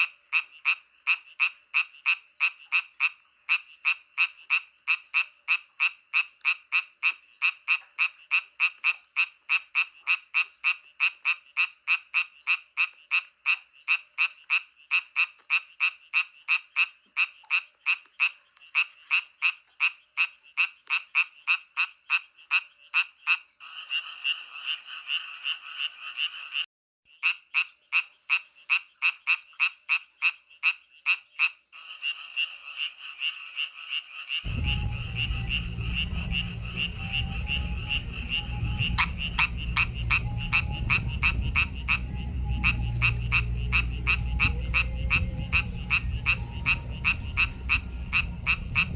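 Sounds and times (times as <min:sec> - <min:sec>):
frogs croaking: 0:00.0 - 0:48.9.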